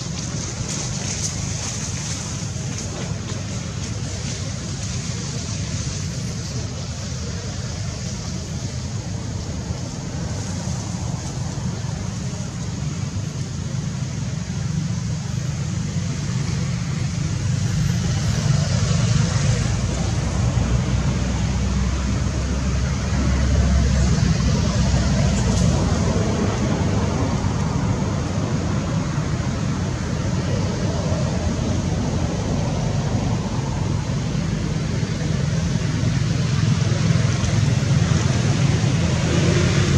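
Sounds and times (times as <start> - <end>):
constant high hiss: 0.0 - 39.9.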